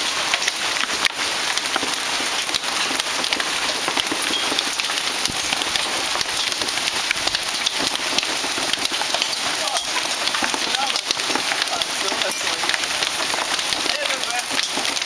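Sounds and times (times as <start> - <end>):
hailstones clattering: 0.0 - 15.0.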